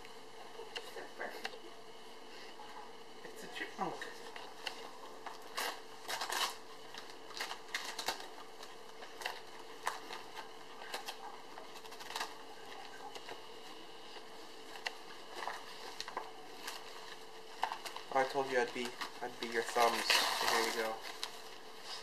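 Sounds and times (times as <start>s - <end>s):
wrapping paper crinkling and tearing: 3.3s - 22.0s.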